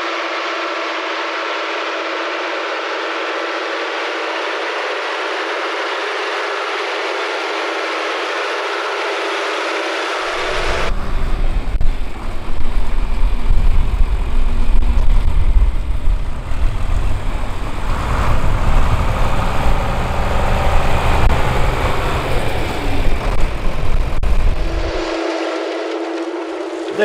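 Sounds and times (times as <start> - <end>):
tractor engine running: 0.3 - 27.0.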